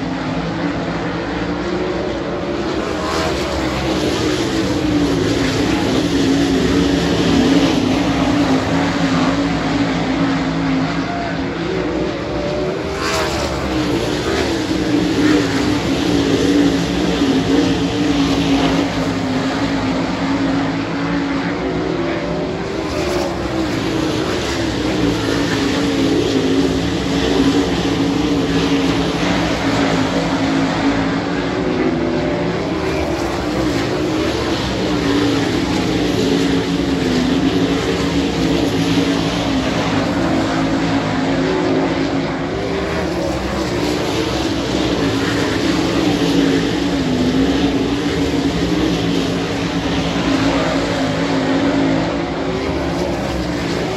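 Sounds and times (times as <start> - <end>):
race car engines blaring: 0.0 - 53.9.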